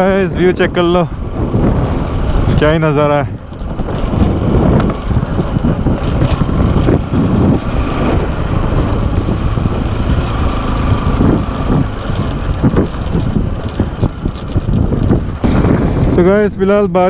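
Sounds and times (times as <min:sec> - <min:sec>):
motorcycle engine running: 0:00.0 - 0:16.5
wind buffeting microphone: 0:00.0 - 0:17.0.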